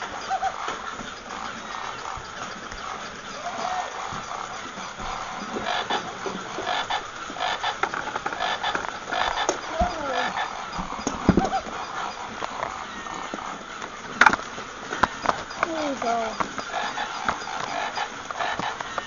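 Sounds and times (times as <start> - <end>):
walking toys clicking and clattering: 0.0 - 19.0.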